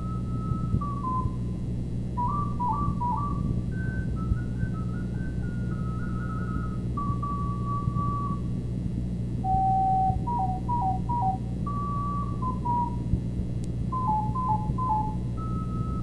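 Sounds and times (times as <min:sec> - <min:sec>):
recorder melody: 0:00.0 - 0:13.2, 0:13.8 - 0:16.0
steady low hum: 0:00.0 - 0:16.0.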